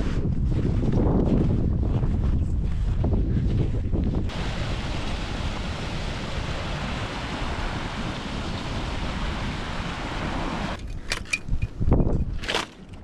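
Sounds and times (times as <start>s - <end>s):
wind buffeting microphone: 0.0s - 12.5s.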